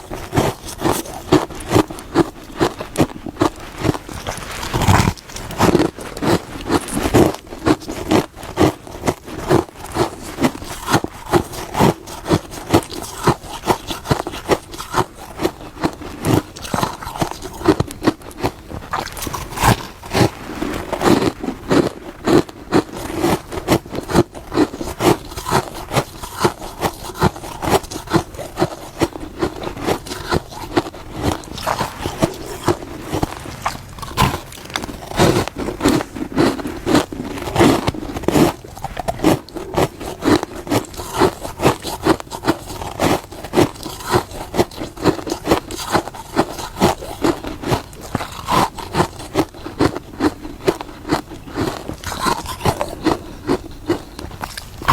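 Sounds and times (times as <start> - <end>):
frost being bitten and chewed: 0.0 - 54.9.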